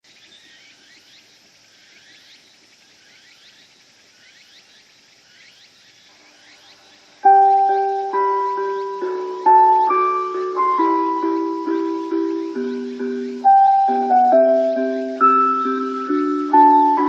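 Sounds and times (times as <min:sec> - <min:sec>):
cicadas calling: 0:00.0 - 0:17.0.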